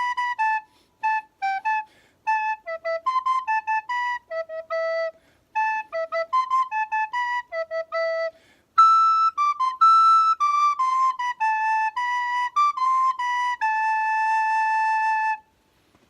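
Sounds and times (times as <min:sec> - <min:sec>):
solo recorder melody: 0:00.0 - 0:15.6.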